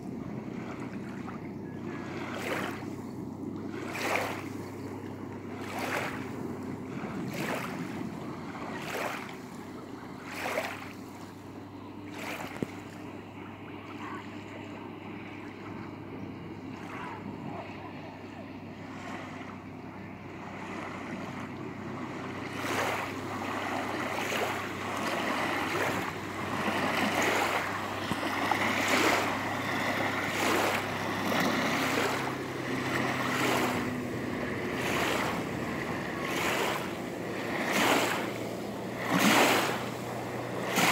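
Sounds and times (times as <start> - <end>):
small waves washing onto shore: 0.0 - 40.9.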